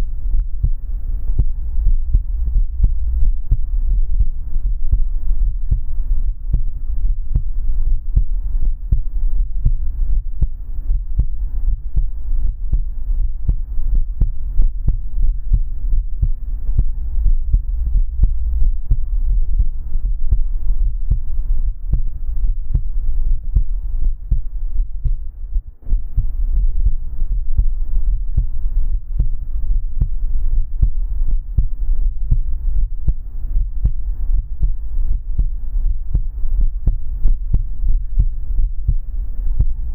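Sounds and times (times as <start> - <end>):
amplified heartbeat thumps: 0.0 - 39.9
constant low hum: 0.0 - 39.9.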